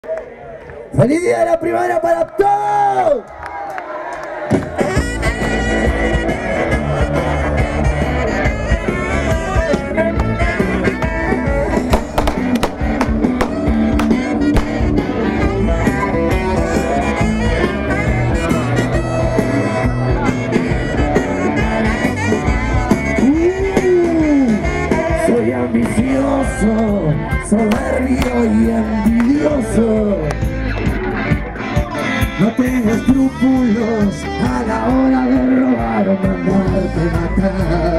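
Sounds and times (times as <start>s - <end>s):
live rock band playing: 4.7s - 37.9s.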